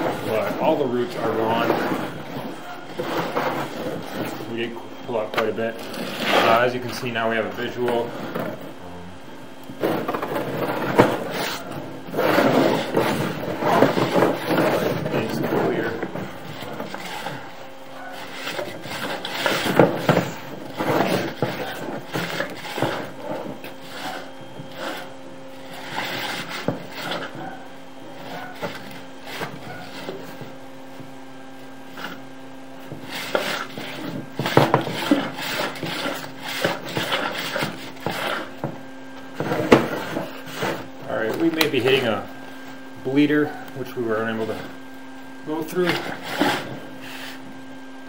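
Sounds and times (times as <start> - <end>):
cable scraping in drain pipe: 0.0 - 8.7, 9.6 - 30.6, 31.9 - 42.2, 43.1 - 44.8, 45.5 - 47.4
steady low hum: 0.0 - 48.0.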